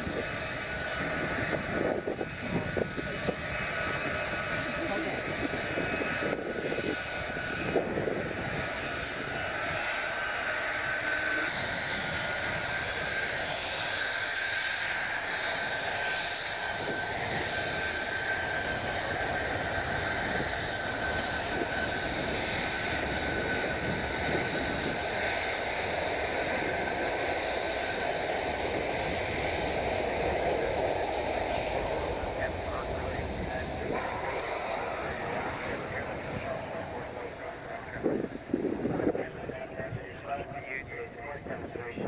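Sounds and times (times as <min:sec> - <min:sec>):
jet engines rushing and whining: 0:00.0 - 0:42.0.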